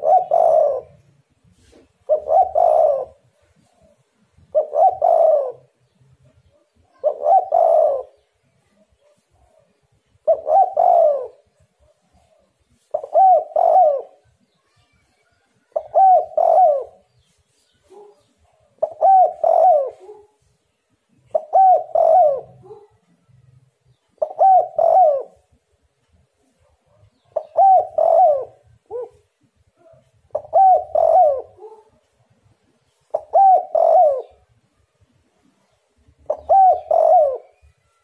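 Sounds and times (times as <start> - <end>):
dove cooing: 0.0 - 14.3, 15.6 - 17.2, 17.8 - 20.5, 21.1 - 23.3, 24.2 - 25.6, 26.4 - 32.1, 32.8 - 34.5, 36.0 - 38.0.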